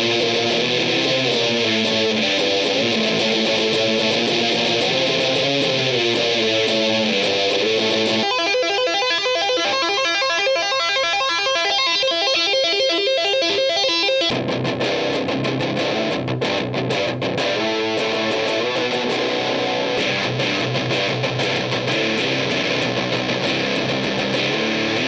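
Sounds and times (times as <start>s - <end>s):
distorted electric guitar riff: 0.0s - 25.0s.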